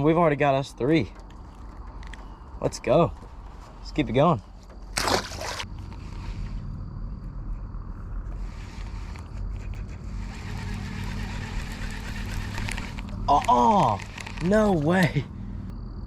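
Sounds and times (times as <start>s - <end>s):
distant engine humming: 0.0s - 16.0s.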